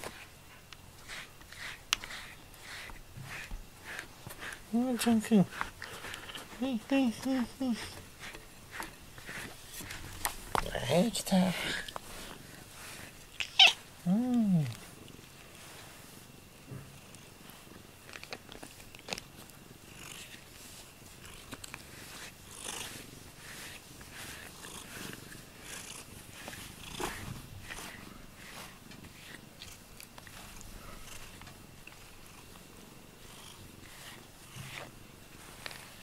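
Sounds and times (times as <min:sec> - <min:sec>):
brush strokes through fur: 0:00.0 - 0:16.4, 0:20.1 - 0:36.0
cat purring: 0:01.0 - 0:18.2, 0:19.0 - 0:36.0.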